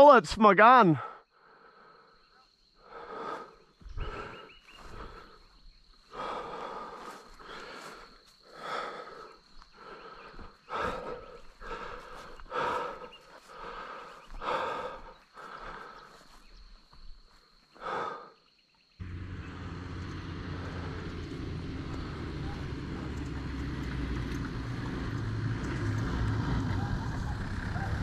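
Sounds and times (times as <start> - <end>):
person breathing heavily while running: 1.0 - 23.9.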